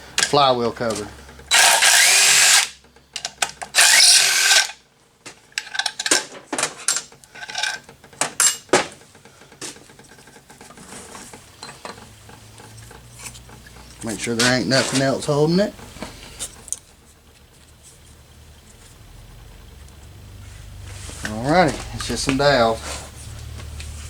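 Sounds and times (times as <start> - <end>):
power driver spinning bolts: 0.0 - 4.8, 6.9 - 17.8, 18.5 - 24.0.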